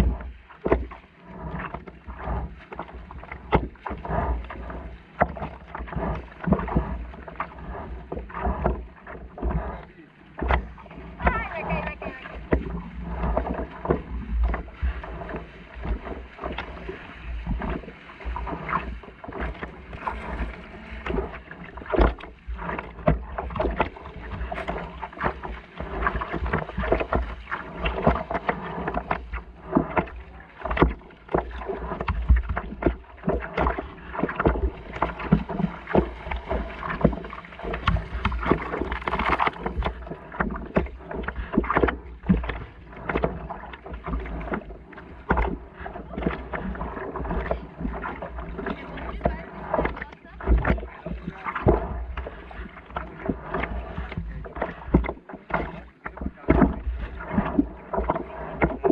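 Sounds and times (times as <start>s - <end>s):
wind on microphone: 0.0s - 0.3s, 1.2s - 58.9s
water lapping against board: 0.0s - 58.9s.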